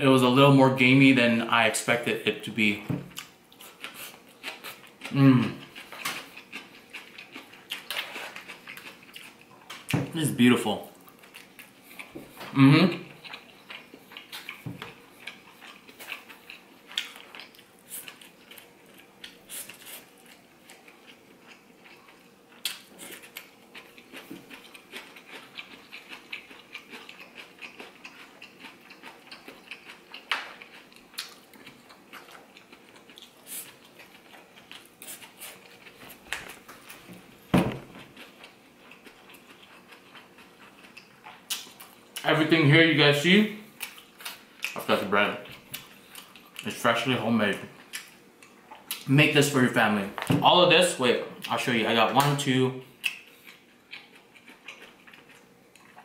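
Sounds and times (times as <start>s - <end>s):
chewing and mouth smacking: 3.1s - 10.0s, 10.9s - 37.4s, 38.0s - 42.3s, 43.7s - 46.8s, 47.7s - 49.1s, 53.0s - 56.0s.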